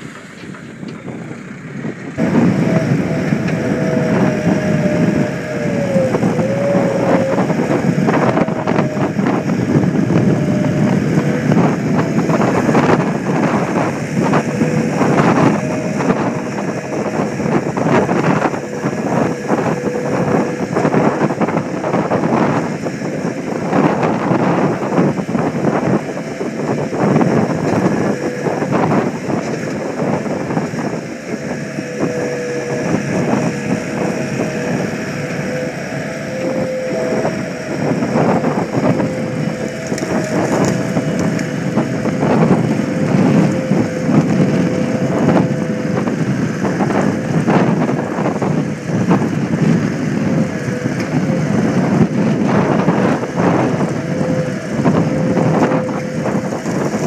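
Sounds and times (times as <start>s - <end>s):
diesel engine under load: 0.0s - 57.0s
steady whine: 0.0s - 57.0s.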